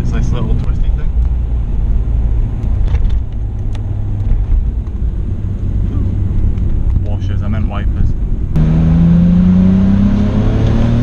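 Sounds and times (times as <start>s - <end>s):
car engine droning while driving: 0.0s - 11.0s.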